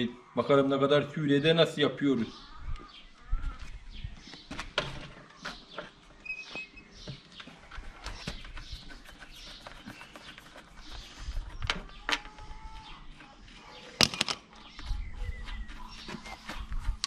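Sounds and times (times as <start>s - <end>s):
small birds chirping: 1.2s - 17.0s.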